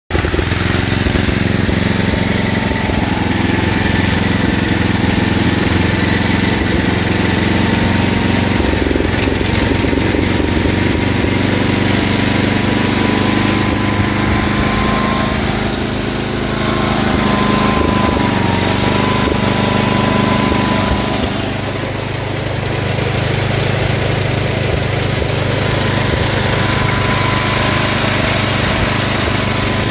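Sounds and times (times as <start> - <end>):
lawn tractor engine running: 0.1 - 29.9.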